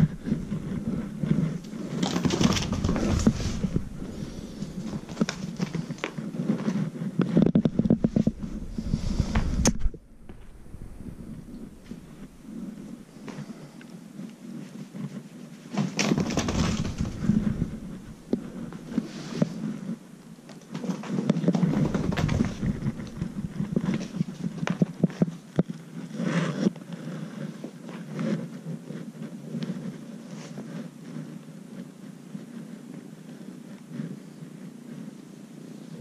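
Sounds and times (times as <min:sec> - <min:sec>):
clothing rustling against microphone: 0:00.0 - 0:34.3.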